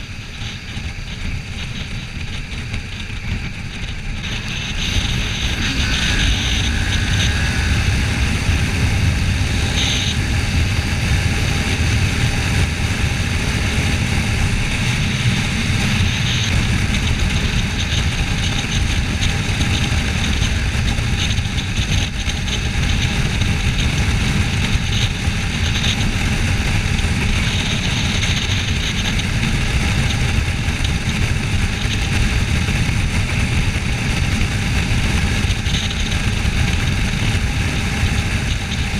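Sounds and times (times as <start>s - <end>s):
motorcycle engine running: 0.0s - 38.9s
wind rushing on microphone: 0.0s - 38.9s.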